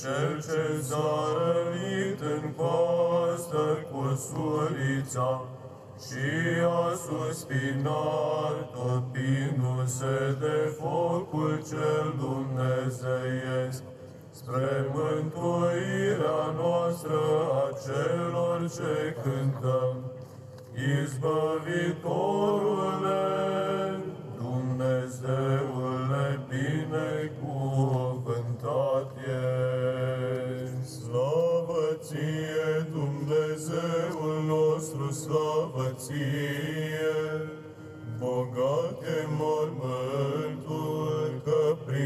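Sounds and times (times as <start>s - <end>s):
low held vocal drone: 0.0s - 20.1s, 20.7s - 42.0s
men's choir chanting melody: 0.0s - 20.1s, 20.8s - 42.0s.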